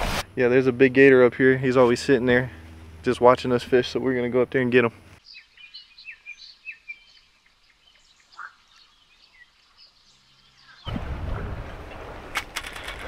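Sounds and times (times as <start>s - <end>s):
birds chirping: 0.5s - 11.0s.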